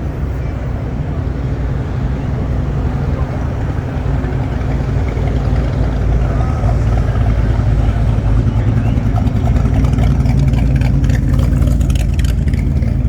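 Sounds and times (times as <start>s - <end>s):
classic car engines running: 0.0s - 13.0s.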